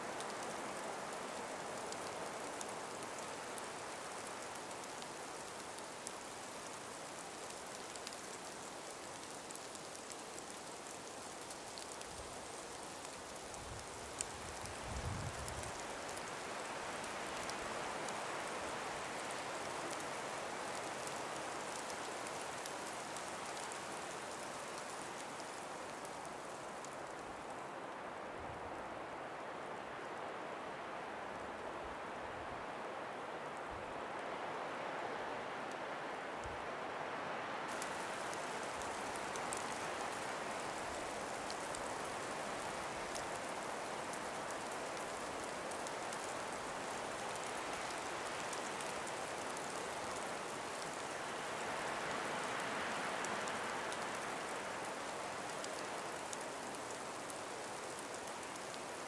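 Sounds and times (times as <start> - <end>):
breeze through forest: 0.0 - 59.0
faint ticks: 0.1 - 27.6, 37.7 - 59.0.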